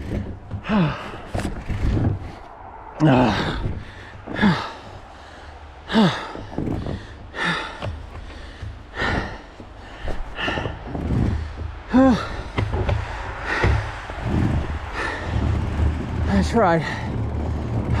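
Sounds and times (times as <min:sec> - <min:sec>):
man breathing hard: 0:00.6 - 0:15.8.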